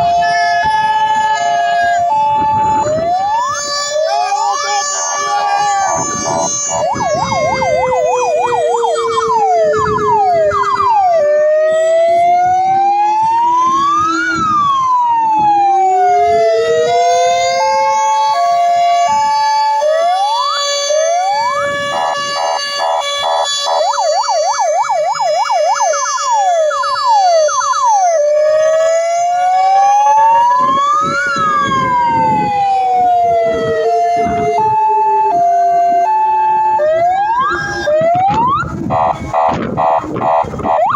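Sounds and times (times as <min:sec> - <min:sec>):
fire engine sirens: 0:00.0 - 0:40.9
low siren tone: 0:00.0 - 0:40.9.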